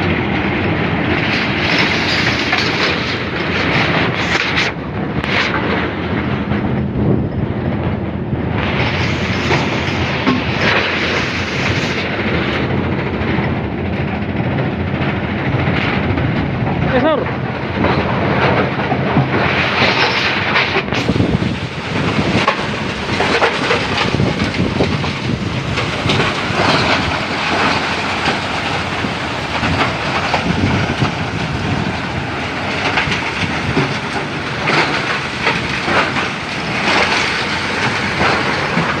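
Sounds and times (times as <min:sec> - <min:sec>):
milling machine clattering: 0:00.0 - 0:05.9, 0:08.6 - 0:39.0.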